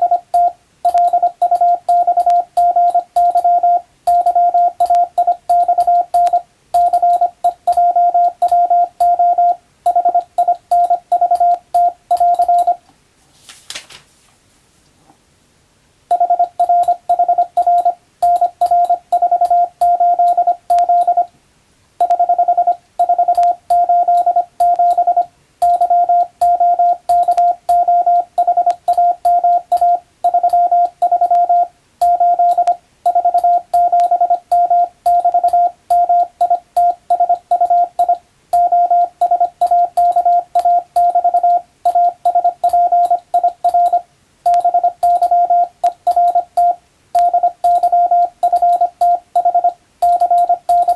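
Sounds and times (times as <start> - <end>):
morse code beeps: 0.0 - 12.8, 16.1 - 21.3, 22.0 - 50.9.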